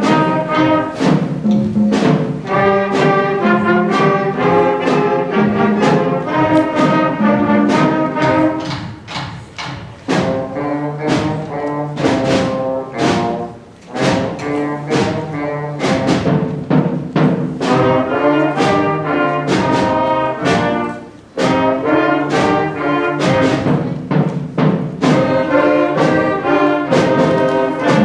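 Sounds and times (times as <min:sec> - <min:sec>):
concert band playing blues: 0:00.0 - 0:28.0
sharp percussion strikes: 0:00.0 - 0:28.0.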